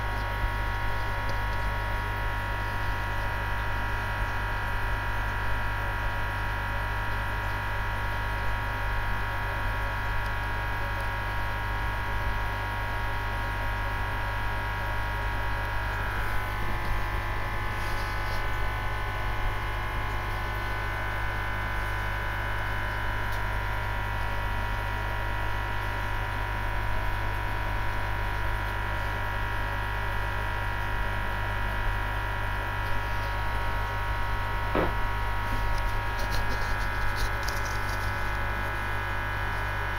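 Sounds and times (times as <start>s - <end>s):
aquarium pump humming: 0.0s - 39.9s.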